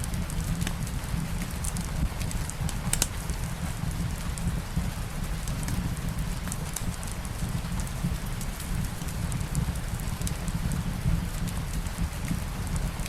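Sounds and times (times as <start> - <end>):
small fire crackles: 0.0 - 13.0
steady rain: 0.0 - 13.0.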